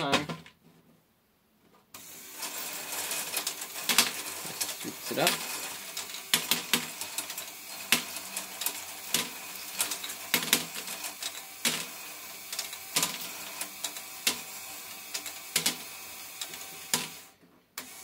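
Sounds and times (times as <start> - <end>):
motor and gears whirring: 2.0 - 18.0.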